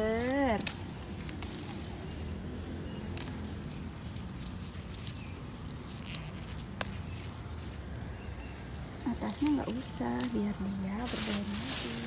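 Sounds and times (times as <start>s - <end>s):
leaves rustling and crackling: 0.0s - 12.0s.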